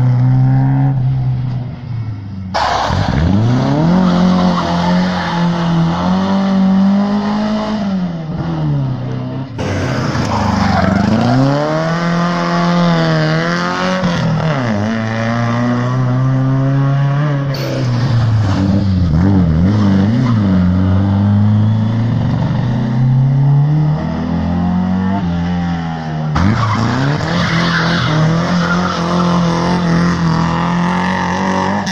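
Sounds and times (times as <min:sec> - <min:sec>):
rally car engines revving: 0:00.0 - 0:31.9.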